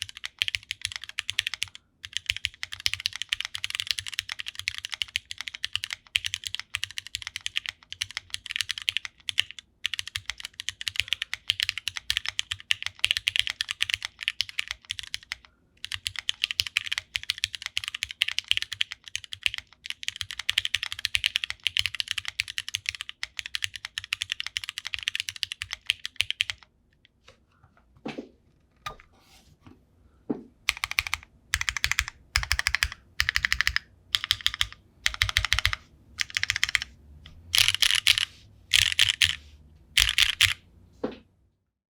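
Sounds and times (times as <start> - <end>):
mechanical keyboard typing: 0.0 - 26.7, 30.7 - 39.4, 40.0 - 40.6.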